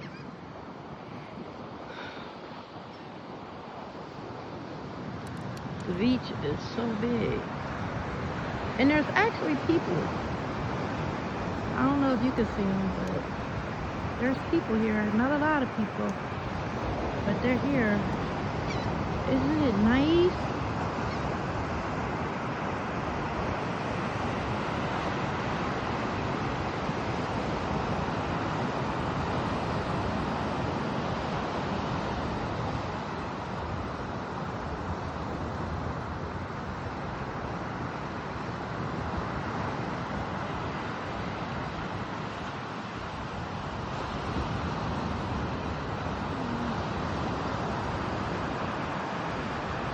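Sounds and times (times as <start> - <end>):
ocean surf: 0.0 - 49.9
wind: 0.0 - 49.9.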